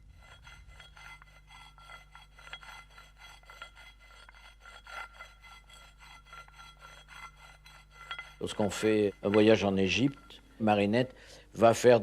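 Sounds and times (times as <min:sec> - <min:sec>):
rasping rubbing strokes: 0:00.0 - 0:10.9
steady low hum: 0:00.0 - 0:11.6.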